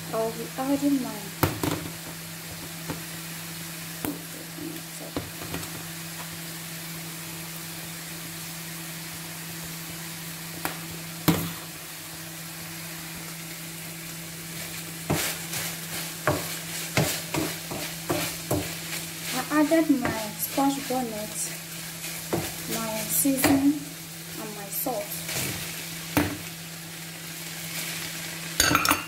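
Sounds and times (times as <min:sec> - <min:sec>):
beef sizzling in a pot: 0:00.0 - 0:29.0.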